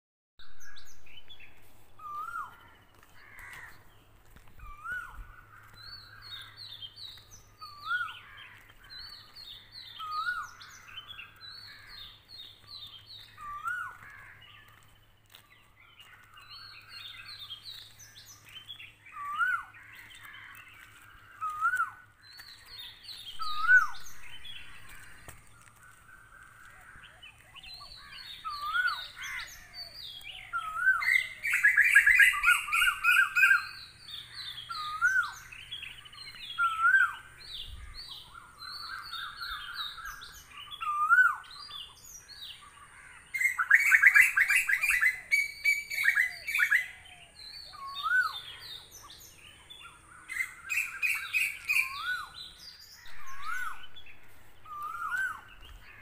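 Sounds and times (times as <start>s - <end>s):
birds chattering trills: 0.5s - 56.0s.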